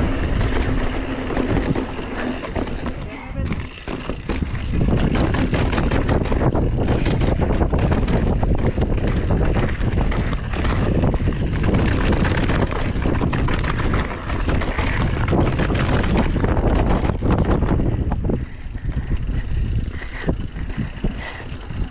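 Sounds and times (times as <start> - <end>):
bike rattling over trail: 0.0 - 21.9
wind buffeting microphone: 0.0 - 21.9.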